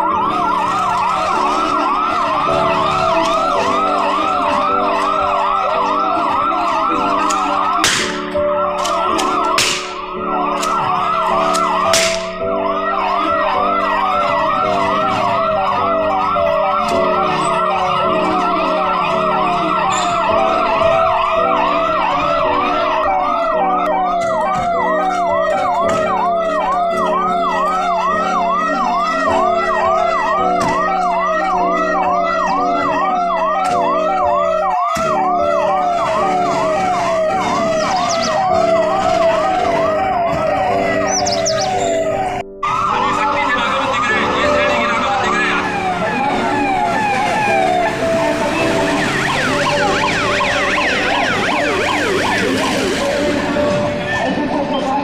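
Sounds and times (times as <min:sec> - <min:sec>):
police siren yelping: 0:00.0 - 0:55.0.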